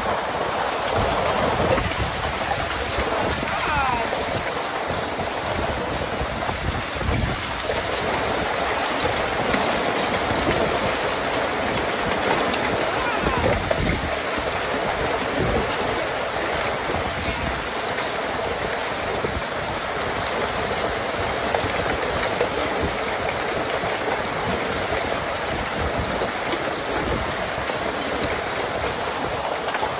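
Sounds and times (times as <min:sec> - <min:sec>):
hailstones pelting down: 0:00.0 - 0:29.9.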